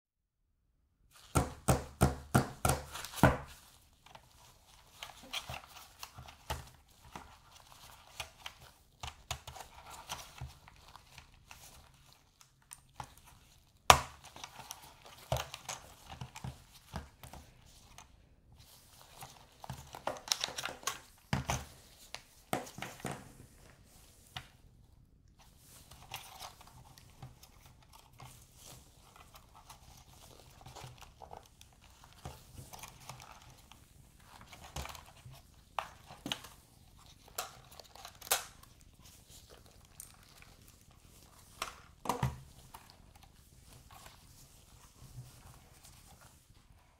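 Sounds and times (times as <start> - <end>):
rustling: 2.9 - 46.9.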